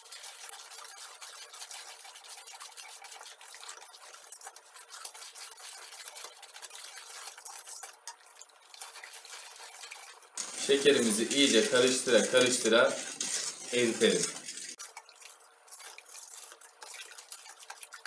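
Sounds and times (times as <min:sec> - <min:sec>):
spoon scraping metal bowl: 0:00.0 - 0:18.0.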